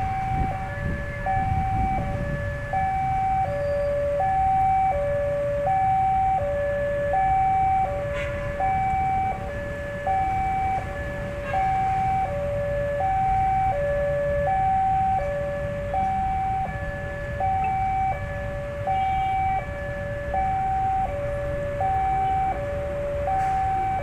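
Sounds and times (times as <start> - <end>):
two-tone level crossing alarm: 0.0 - 24.0.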